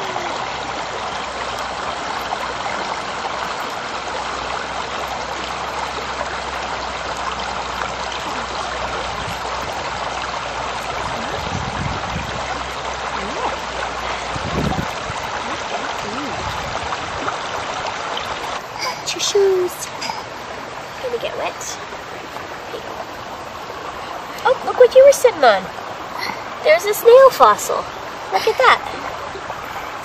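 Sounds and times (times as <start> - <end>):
creek water running over rocks: 0.0 - 30.0.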